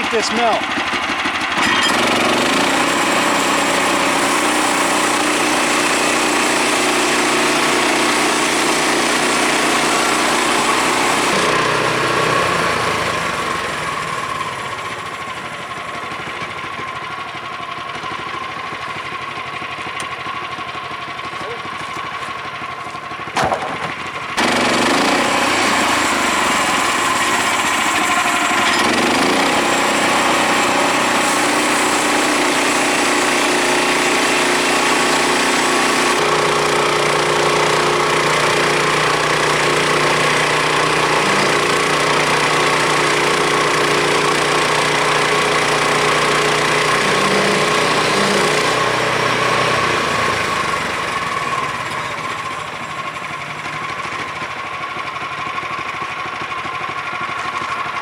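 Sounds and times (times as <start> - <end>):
band saw blade cutting log: 0.0 - 15.4, 21.3 - 53.1
gas engine running: 0.0 - 58.0.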